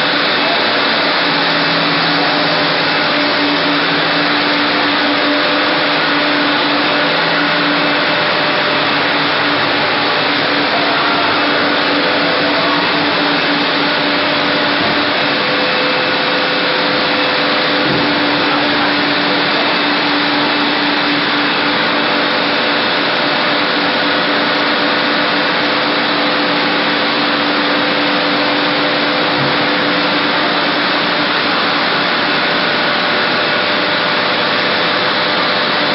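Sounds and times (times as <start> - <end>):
machine rushing noise: 0.0 - 35.7
steady machine hum: 0.0 - 35.9.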